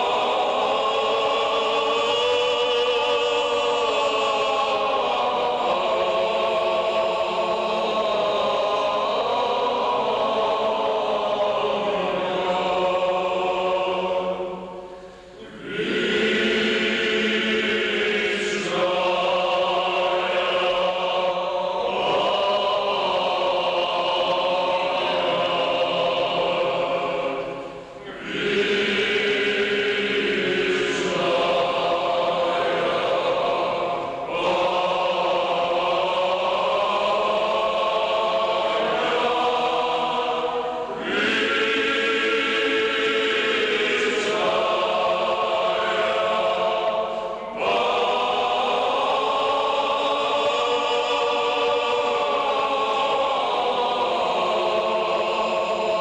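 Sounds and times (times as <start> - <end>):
male choir singing: 0.0 - 56.0.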